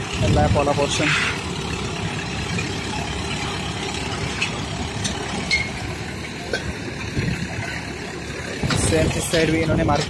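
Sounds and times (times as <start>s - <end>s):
machinery engine rumble: 0.0s - 10.0s.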